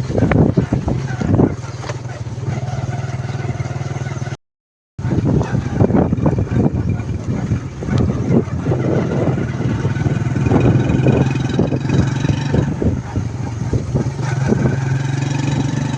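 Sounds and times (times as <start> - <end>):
engine humming: 0.0 - 4.4, 5.0 - 15.9.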